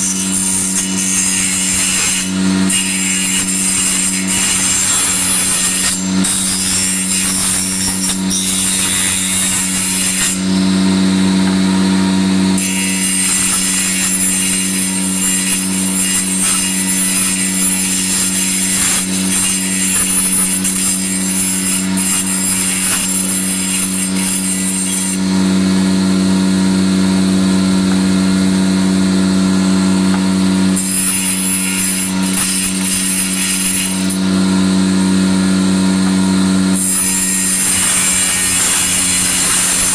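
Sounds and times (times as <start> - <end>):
hissing of tool cutting wood: 0.0 - 25.8, 30.1 - 34.3, 36.7 - 39.9
power tool motor hum: 0.0 - 39.9.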